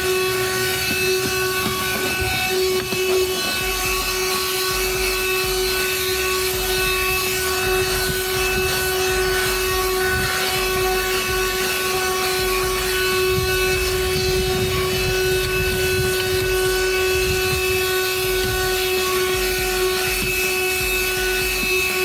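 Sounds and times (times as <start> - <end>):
handheld vacuum whining: 0.0 - 22.0.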